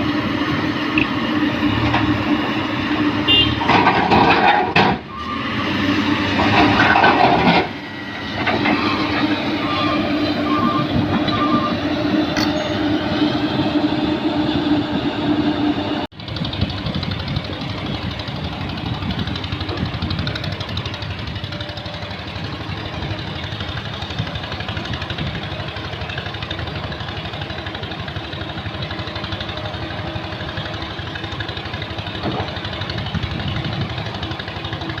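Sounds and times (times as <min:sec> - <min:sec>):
diesel engine chugging: 0:00.0 - 0:35.0.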